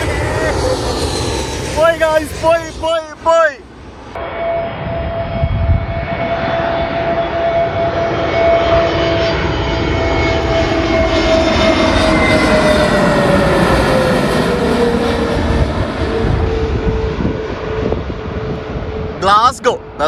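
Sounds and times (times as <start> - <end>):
jet airliner engines roaring: 0.0 - 20.0.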